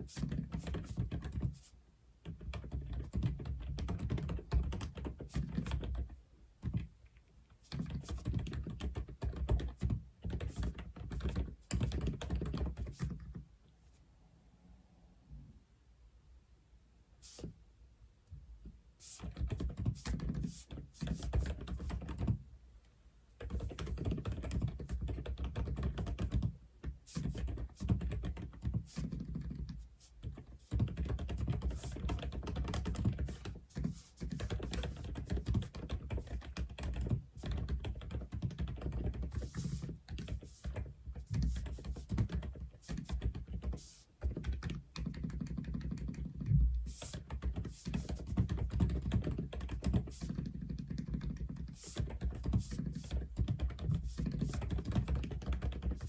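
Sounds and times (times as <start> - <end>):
mechanical keyboard typing: 2.3 - 6.9, 7.7 - 13.3, 19.2 - 22.4, 23.4 - 56.0.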